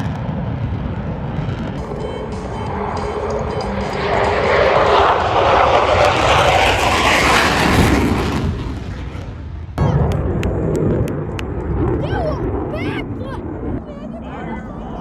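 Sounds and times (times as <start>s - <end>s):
military jet passing: 0.0s - 15.0s.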